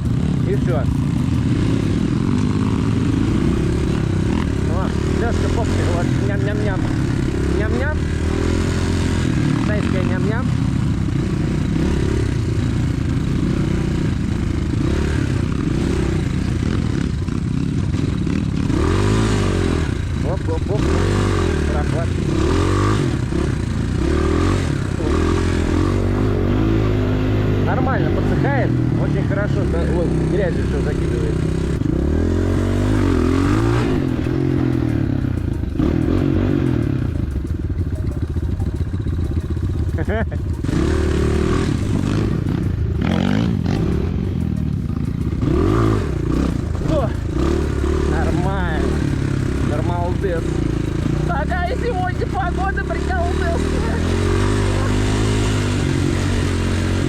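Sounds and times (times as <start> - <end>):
bike rattling: 0.0 - 57.0
motorcycle engine running: 0.0 - 57.0.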